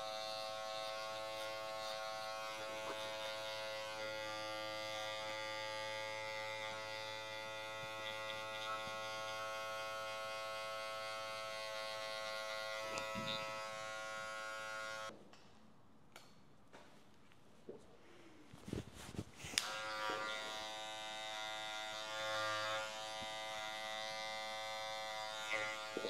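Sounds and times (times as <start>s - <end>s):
electric hair clippers buzzing: 0.0s - 15.1s, 19.5s - 26.0s.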